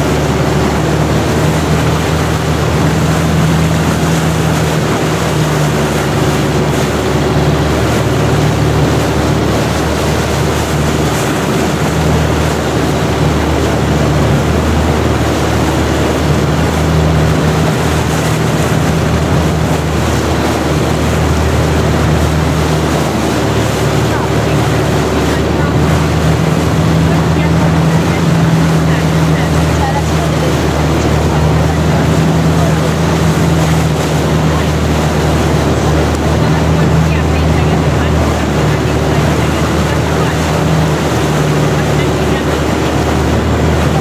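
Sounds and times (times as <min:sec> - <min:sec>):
boat engine droning: 0:00.0 - 0:44.0
water rushing past boat: 0:00.0 - 0:44.0.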